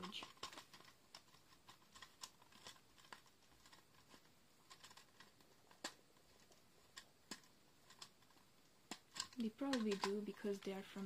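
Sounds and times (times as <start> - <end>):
faint sharp clicks and taps: 0.0 - 11.0.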